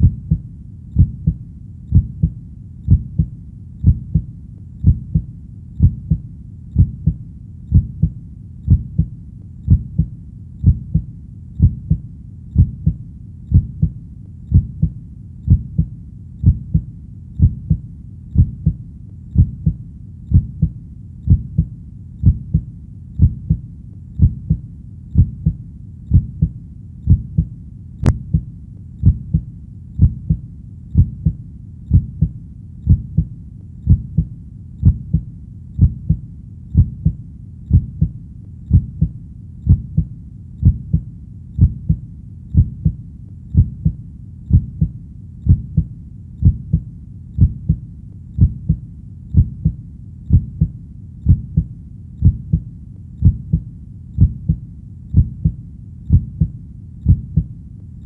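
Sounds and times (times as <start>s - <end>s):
heartbeat: 0.0s - 58.0s.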